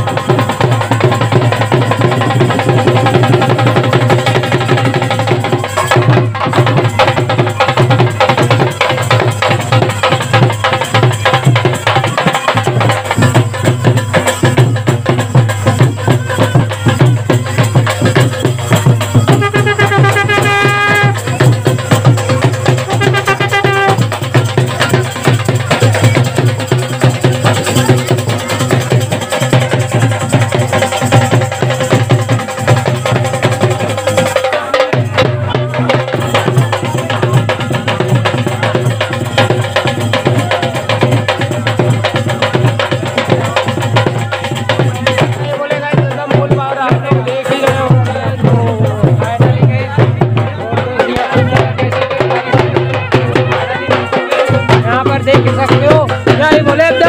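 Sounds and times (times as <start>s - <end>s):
fast folk drumming: 0.0s - 57.0s.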